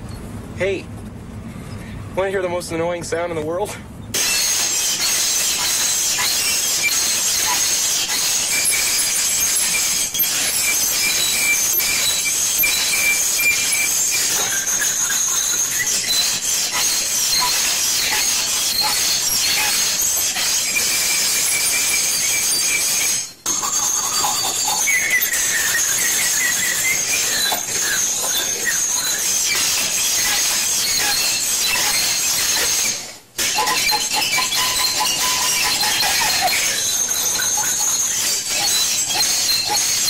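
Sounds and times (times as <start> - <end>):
metal fork scraping a plate: 4.2 - 40.0.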